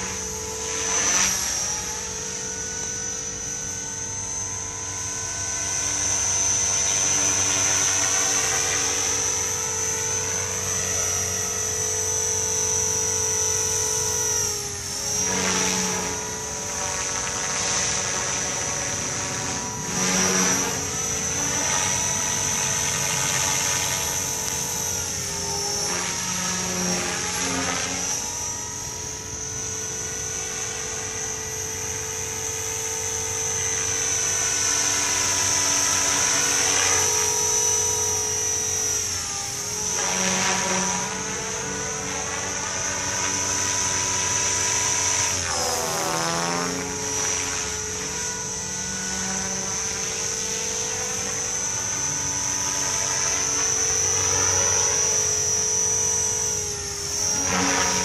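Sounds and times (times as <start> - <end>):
helicopter rotor noise: 0.0 - 58.0
rc helicopter motor whine: 0.0 - 58.0.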